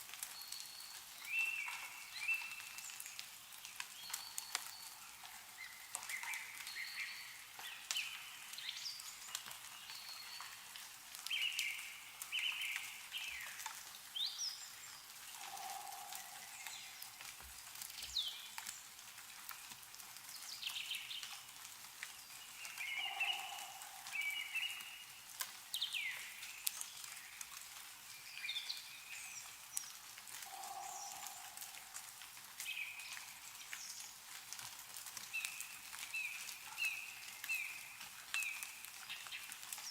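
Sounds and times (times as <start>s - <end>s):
meltwater dripping from trees: 0.0s - 39.9s
small birds chirping: 0.2s - 34.3s, 35.2s - 39.9s.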